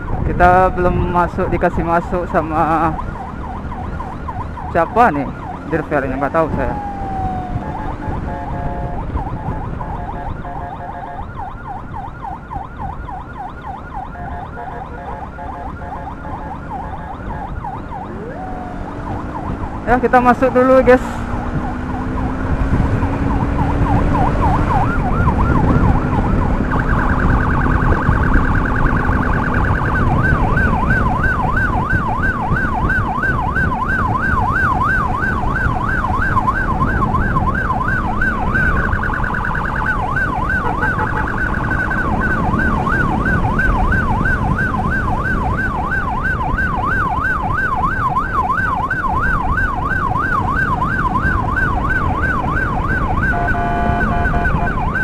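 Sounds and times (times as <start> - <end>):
electronic siren yelping: 0.0 - 55.0
low rumble of wind and engine: 0.0 - 55.0.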